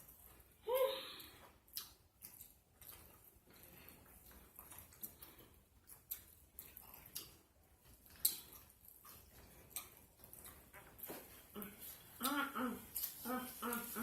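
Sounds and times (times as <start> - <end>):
open-mouthed chewing: 0.0 - 14.0.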